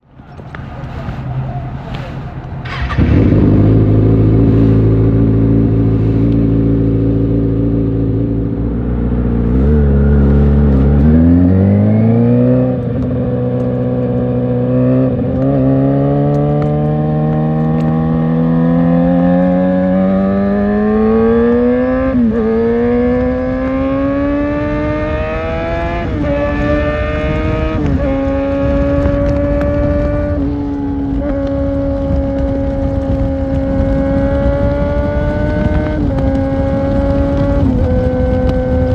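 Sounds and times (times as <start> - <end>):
motorcycle engine accelerating: 2.6 - 38.9.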